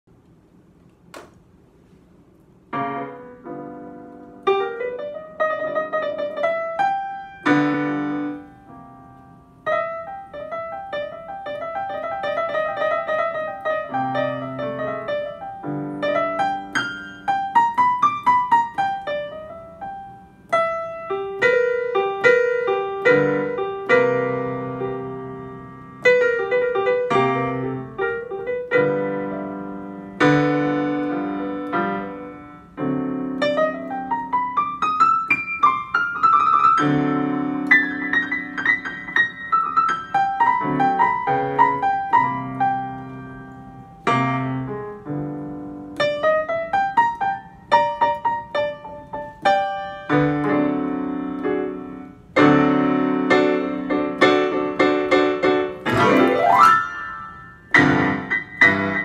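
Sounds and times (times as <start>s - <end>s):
digital piano playing blues: 2.6s - 59.0s.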